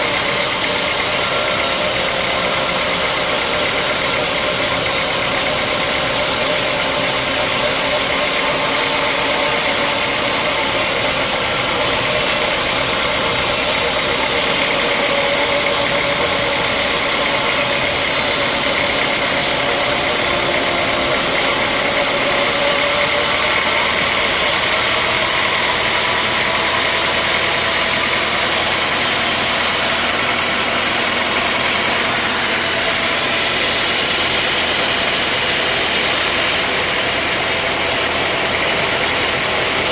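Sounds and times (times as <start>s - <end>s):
sawmill machinery engine humming: 0.0s - 39.9s.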